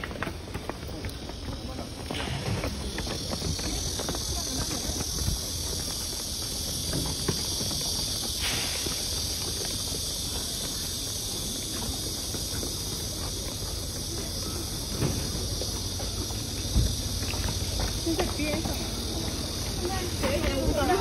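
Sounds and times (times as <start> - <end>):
group walking past: 0.0 - 21.0
high hiss of night ambience: 0.0 - 21.0.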